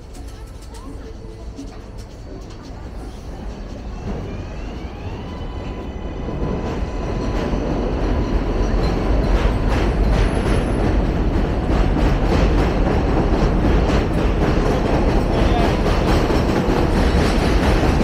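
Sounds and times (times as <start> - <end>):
elevated train passing overhead: 0.0 - 18.0.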